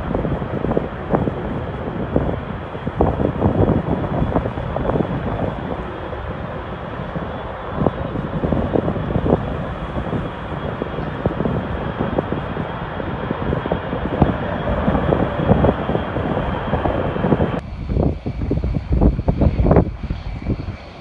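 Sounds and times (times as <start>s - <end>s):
jet engines at high power: 0.0s - 21.0s.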